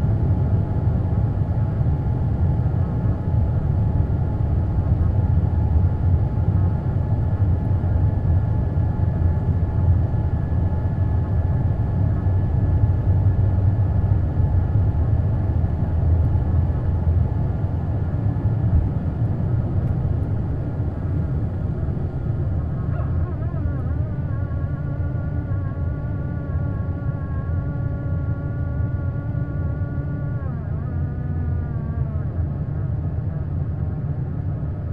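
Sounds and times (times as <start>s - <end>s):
jet engines rumbling in cabin: 0.0s - 34.9s.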